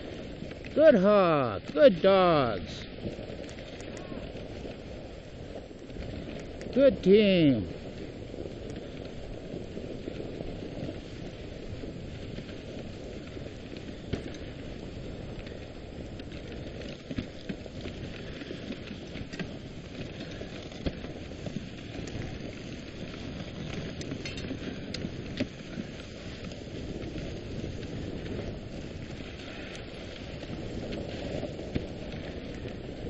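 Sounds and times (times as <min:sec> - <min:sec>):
sled clicks and knocks: 0:00.0 - 0:33.0
sled runners hissing on snow: 0:00.0 - 0:33.0.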